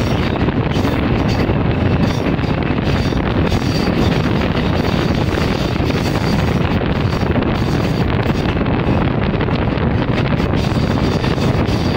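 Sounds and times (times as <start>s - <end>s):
train running rumble: 0.0s - 11.9s
wind buffeting a microphone: 0.0s - 11.9s.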